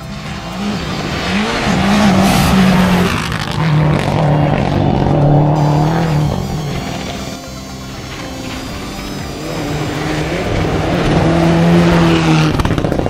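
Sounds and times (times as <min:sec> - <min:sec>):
rally car engine: 0:00.0 - 0:13.0.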